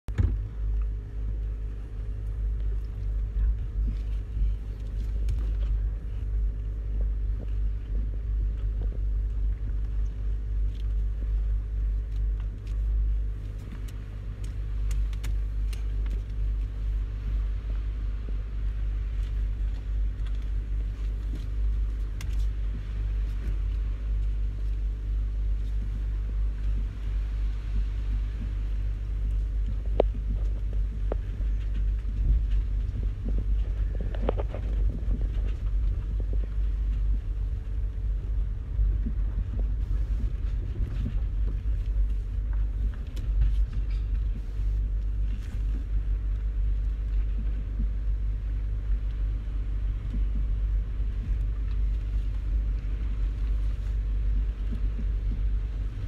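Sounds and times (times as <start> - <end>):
constant hum: 0.0 - 56.0
car engine and road noise: 0.1 - 56.0.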